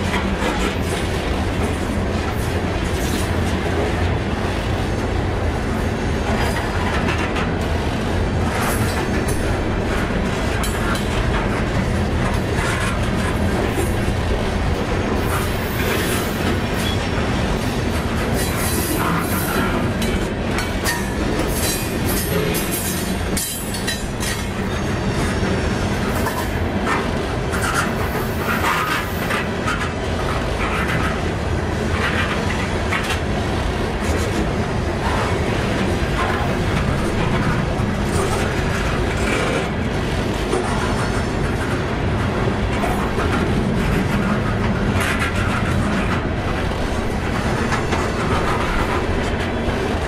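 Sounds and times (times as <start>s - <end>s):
clickety-clack over rail joints: 0.0s - 50.0s
train wheels rumbling on rails: 0.0s - 50.0s.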